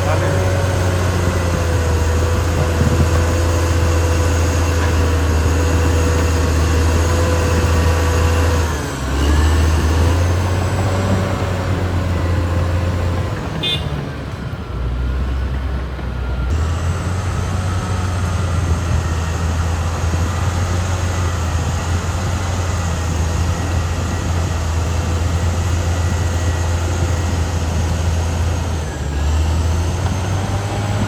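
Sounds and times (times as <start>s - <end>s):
bulldozer diesel engine whining: 0.0s - 31.0s.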